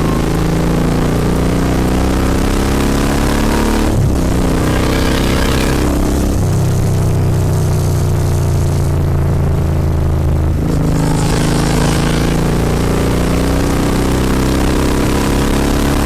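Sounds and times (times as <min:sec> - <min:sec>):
motorcycle engine riding: 0:00.0 - 0:16.0.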